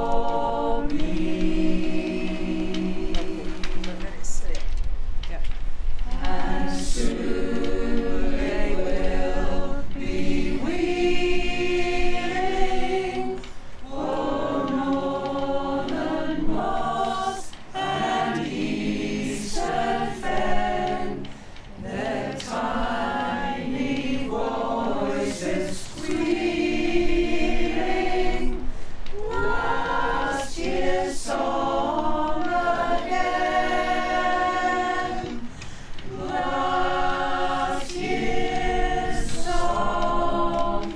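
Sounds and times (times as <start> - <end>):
choir singing a cappella: 0.0 - 4.5, 6.0 - 40.9.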